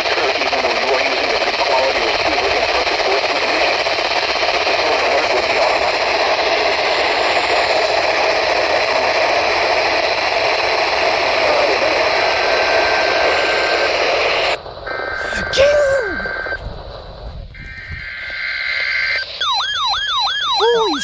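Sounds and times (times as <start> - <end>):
radio static hiss: 0.0 - 19.4.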